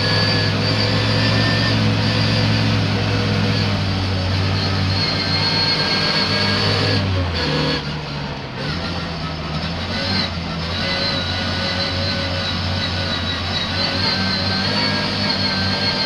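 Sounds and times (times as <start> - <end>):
racing car engine: 0.0 - 16.0.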